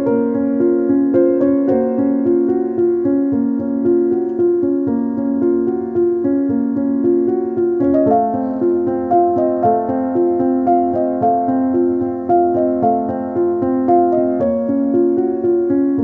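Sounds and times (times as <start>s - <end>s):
piano keyboard music: 0.0s - 16.0s.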